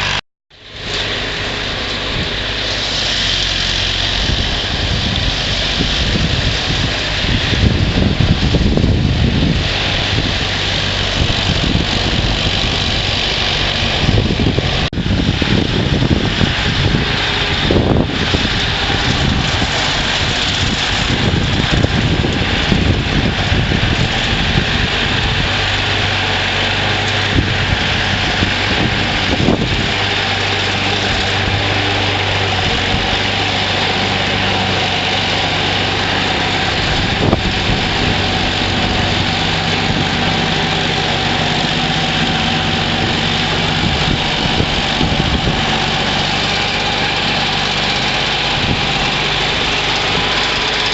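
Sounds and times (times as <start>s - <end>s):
continuous rushing hiss: 0.0s - 50.9s
garden tractor engine running: 0.0s - 50.9s.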